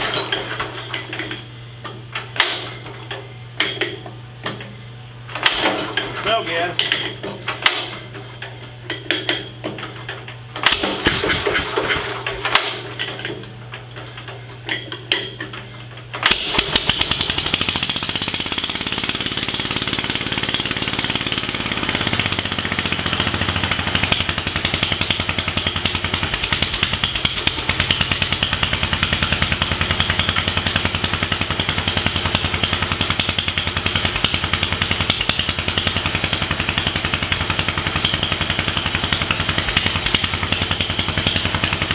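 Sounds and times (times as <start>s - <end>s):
engine hand-cranked with clanks: 0.0s - 41.9s
engine running: 0.0s - 41.9s.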